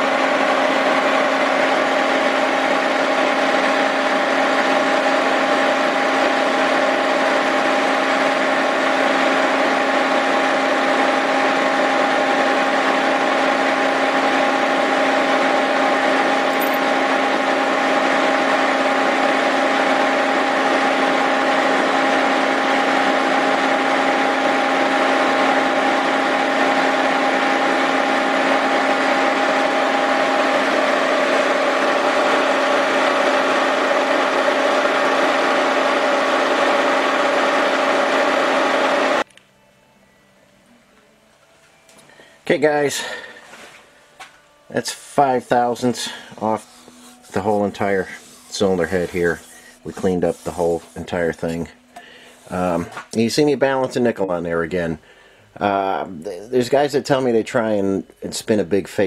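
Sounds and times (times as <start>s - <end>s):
milling machine humming: 0.0s - 39.2s, 42.0s - 54.2s.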